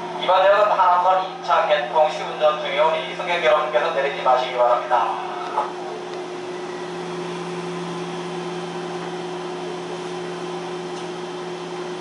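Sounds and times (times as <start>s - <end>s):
constant low hum: 0.0s - 11.4s
subway train running noise: 0.0s - 12.0s.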